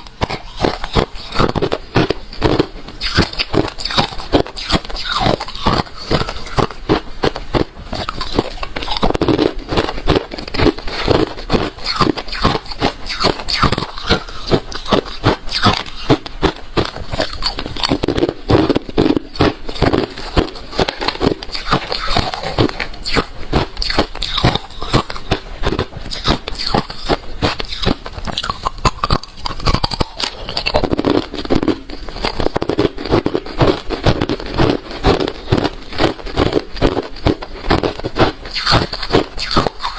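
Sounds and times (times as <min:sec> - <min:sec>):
crunching ice between teeth: 0:00.0 - 0:39.9.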